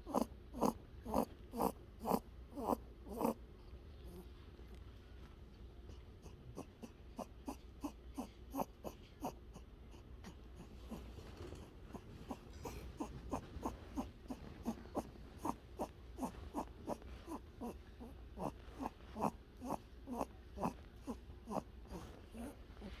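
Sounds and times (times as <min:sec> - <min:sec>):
rabbit snoring snuffles: 0:00.0 - 0:04.6, 0:05.8 - 0:23.0.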